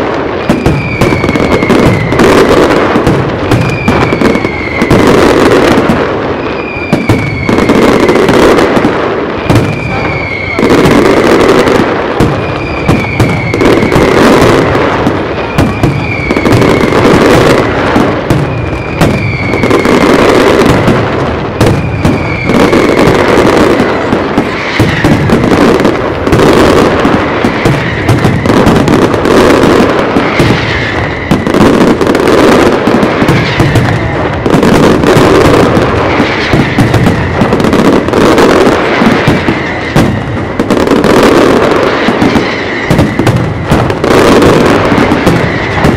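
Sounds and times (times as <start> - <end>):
falling firework whistle: 0.0 - 45.9
fireworks bangs and crackling: 0.0 - 45.9.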